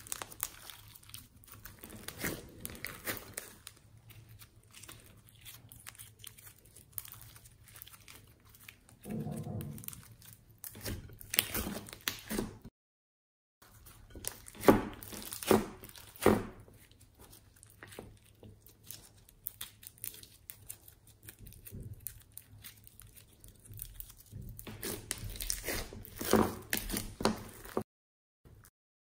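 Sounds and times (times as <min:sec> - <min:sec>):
slime soft crackling: 0:00.0 - 0:12.2, 0:16.8 - 0:27.8.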